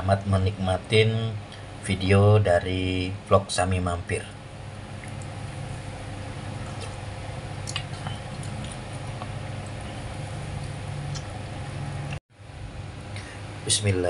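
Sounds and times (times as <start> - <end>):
mechanical room hum: 0.0 - 14.0.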